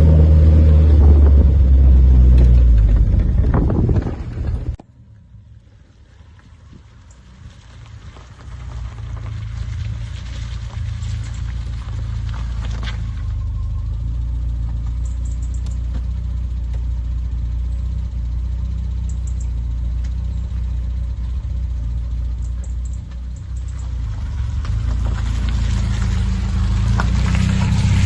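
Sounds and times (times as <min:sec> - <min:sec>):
car engine running steadily: 0:00.0 - 0:28.0.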